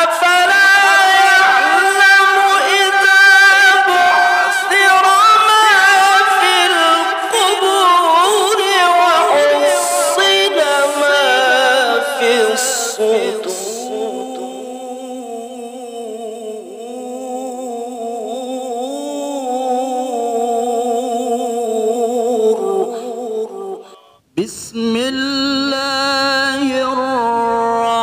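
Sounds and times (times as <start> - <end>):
man reciting melodically: 0.0 - 28.0.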